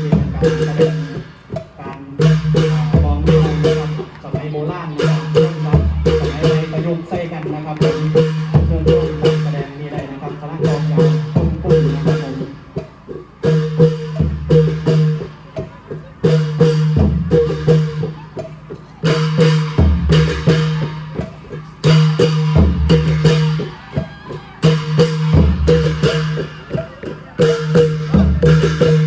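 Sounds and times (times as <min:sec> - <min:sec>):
long drum ensemble playing: 0:00.0 - 0:29.0.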